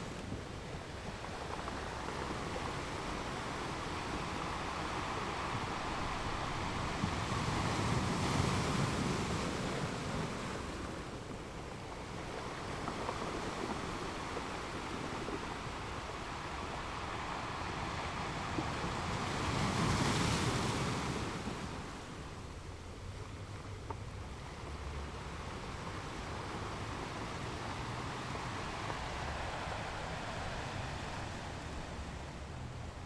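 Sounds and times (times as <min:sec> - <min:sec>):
ocean waves washing onto shore: 0:00.0 - 0:33.0.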